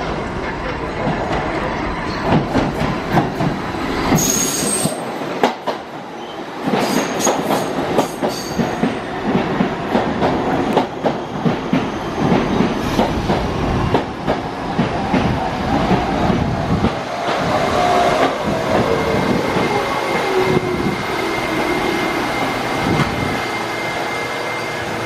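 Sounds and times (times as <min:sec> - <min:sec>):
subway train wheels clacking: 0:00.0 - 0:25.0.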